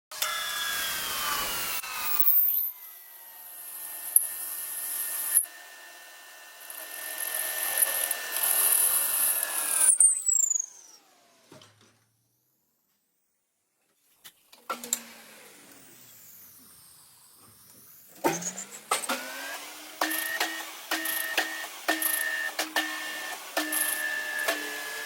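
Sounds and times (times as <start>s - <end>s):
machine motor whine: 0.2s - 12.7s, 14.8s - 25.0s.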